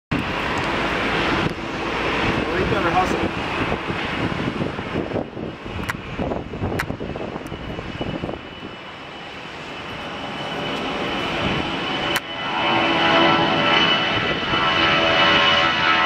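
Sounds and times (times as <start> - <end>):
high thin engine whine: 0.1 - 16.0
airliner engines hissing: 0.2 - 16.0.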